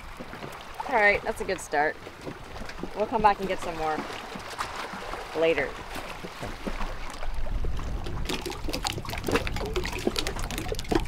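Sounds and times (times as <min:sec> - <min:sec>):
seawater splashing: 0:00.0 - 0:11.0.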